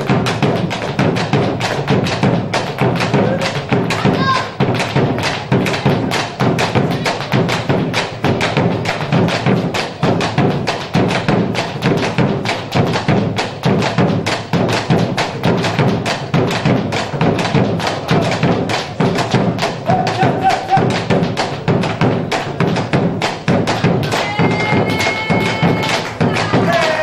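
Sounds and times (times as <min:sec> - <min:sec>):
fast sharp percussive strikes: 0:00.0 - 0:27.0.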